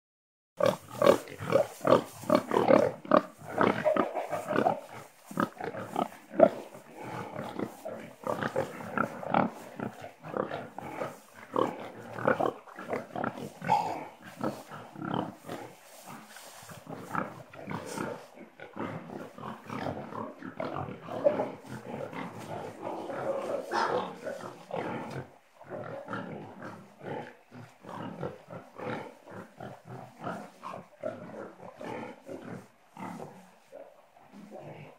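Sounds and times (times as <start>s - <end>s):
pigs grunting: 0.6s - 34.9s.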